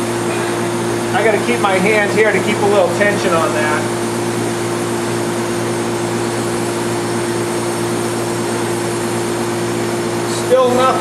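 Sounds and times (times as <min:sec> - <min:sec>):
air conditioning machinery humming: 0:00.0 - 0:11.0.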